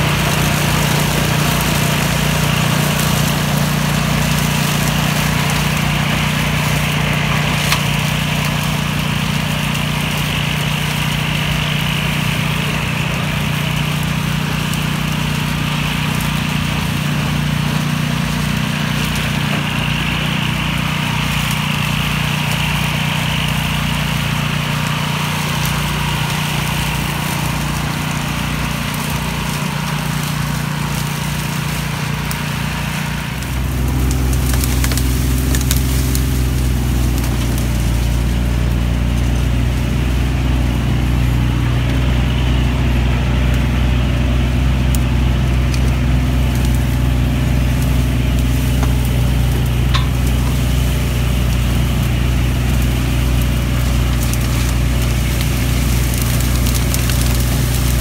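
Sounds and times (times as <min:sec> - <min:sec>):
engines humming steadily: 0:00.0 - 0:58.0
mower cutting tall grass: 0:00.0 - 0:58.0.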